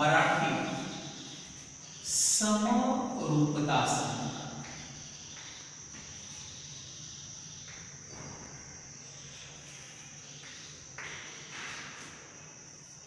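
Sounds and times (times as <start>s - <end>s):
steady high-pitched whine: 0.0s - 13.0s.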